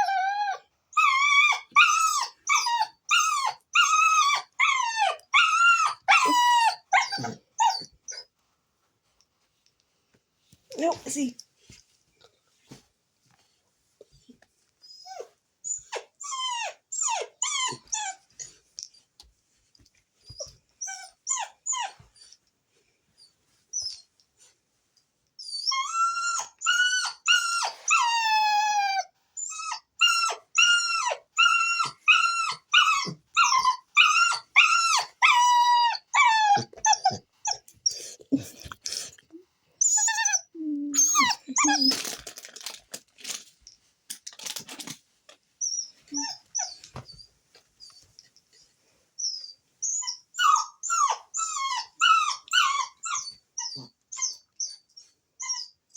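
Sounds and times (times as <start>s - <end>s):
puppy whining and yelping: 0.0s - 9.2s, 14.1s - 19.3s, 20.2s - 24.6s, 25.4s - 42.3s, 45.5s - 55.9s.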